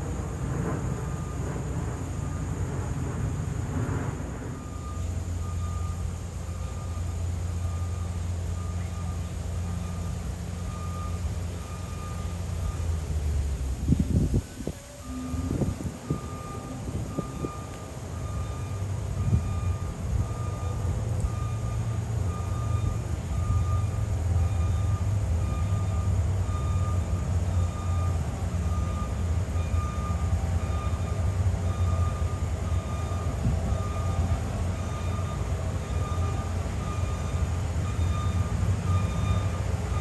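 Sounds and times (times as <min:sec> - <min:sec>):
heavy vehicle engine rumbling: 0:00.0 - 0:40.0.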